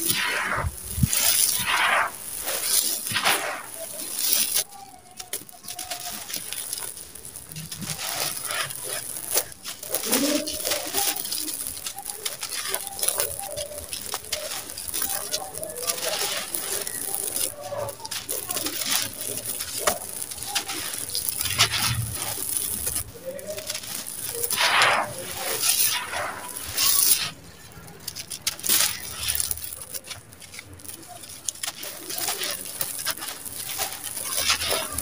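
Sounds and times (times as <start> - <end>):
sand and cement sifting onto pile: 0.0 - 35.0.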